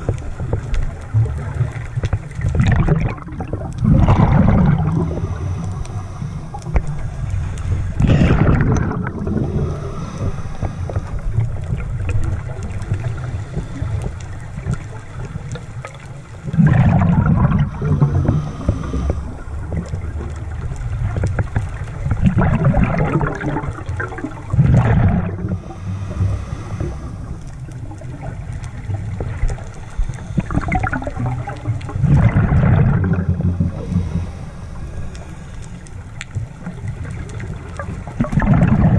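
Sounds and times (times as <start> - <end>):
exhaled air bubbling underwater: 0.0 - 38.9
low underwater rumble: 0.0 - 38.9.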